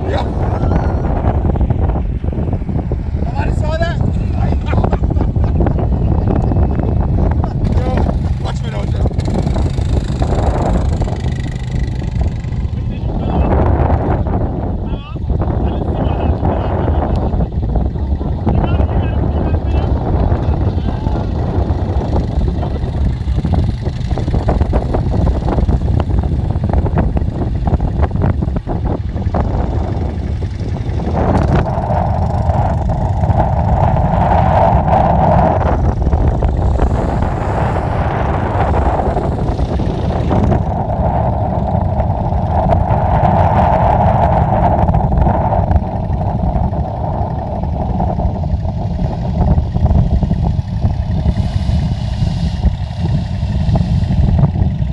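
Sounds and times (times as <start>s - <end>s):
atv engines running: 0.0s - 54.9s
quad driving on dirt track: 0.0s - 54.9s.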